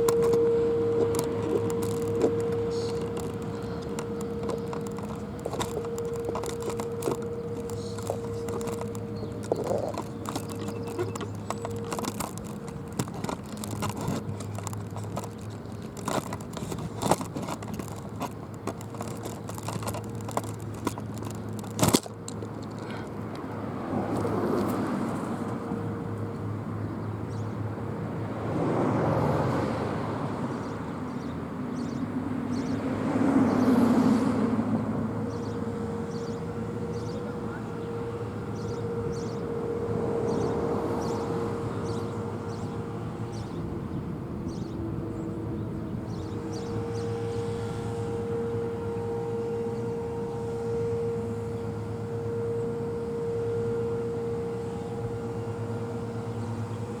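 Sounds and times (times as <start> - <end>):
distant steady warning siren: 0.0 - 57.0
traffic passing by: 0.0 - 57.0.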